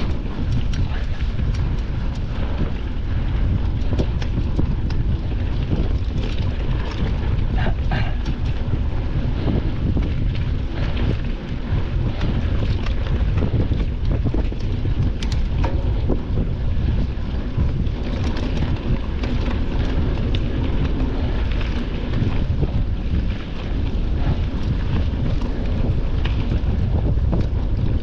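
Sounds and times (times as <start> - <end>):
bike clicking and rattling: 0.0 - 28.0
wind buffeting microphone: 0.0 - 28.0.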